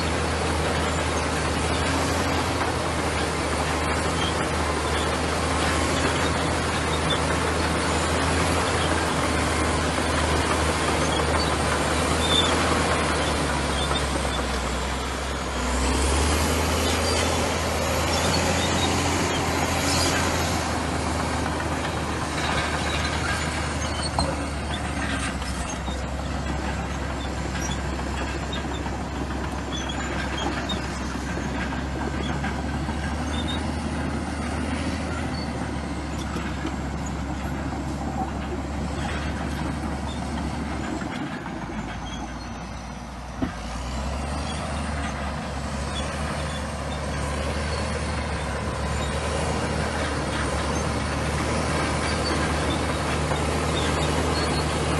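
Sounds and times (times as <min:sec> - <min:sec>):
metallic clicks and squeaks: 0:00.0 - 0:15.4, 0:16.7 - 0:20.6, 0:21.3 - 0:43.1, 0:44.2 - 0:54.9
bulldozer diesel engine running: 0:00.0 - 0:54.9.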